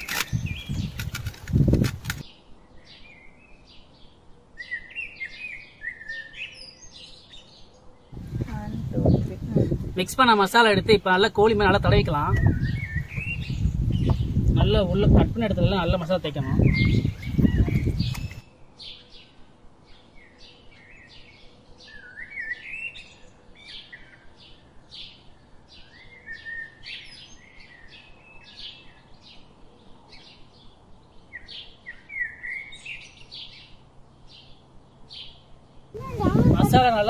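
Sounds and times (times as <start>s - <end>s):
birds chirping: 0.0s - 37.0s
birds warbling: 0.0s - 37.0s.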